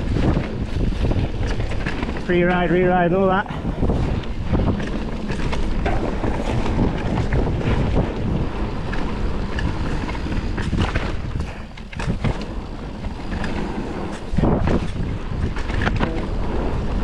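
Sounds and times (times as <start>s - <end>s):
bike clicks and knocks: 0.0s - 3.0s, 3.8s - 17.0s
bike tyre rumble: 0.0s - 17.0s
wind over microphone: 0.0s - 17.0s.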